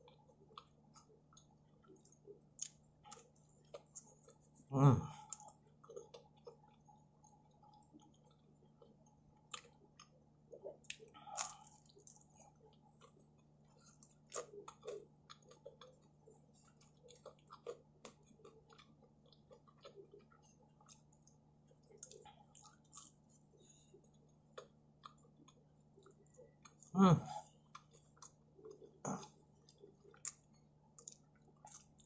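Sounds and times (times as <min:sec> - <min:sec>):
chewing crispy pizza: 0:00.0 - 0:32.0.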